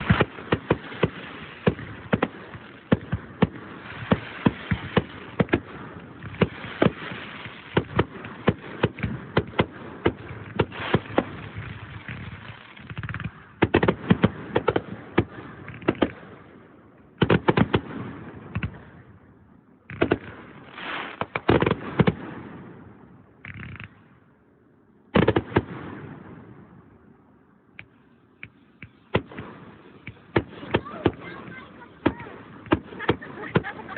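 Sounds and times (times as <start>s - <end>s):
fireworks bangs: 0.0s - 24.3s, 25.1s - 33.9s
fireworks crackling: 0.0s - 24.4s, 25.1s - 27.0s, 27.8s - 33.9s.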